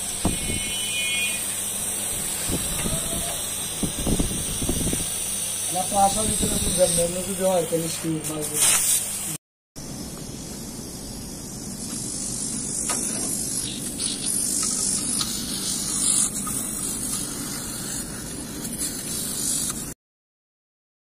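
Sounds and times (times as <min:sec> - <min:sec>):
gas hissing under pressure: 0:00.0 - 0:19.9.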